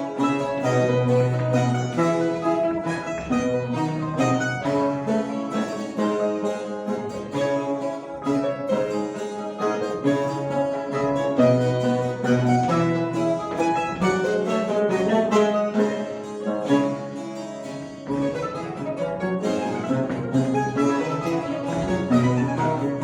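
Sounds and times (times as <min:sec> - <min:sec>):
mandolin ensemble playing: 0:00.0 - 0:23.0.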